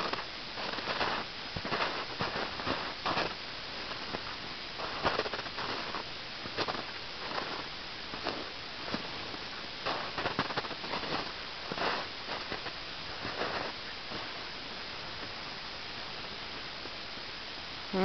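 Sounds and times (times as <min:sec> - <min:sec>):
footsteps crunching in snow: 0:00.0 - 0:14.5
steady hiss: 0:00.0 - 0:18.0.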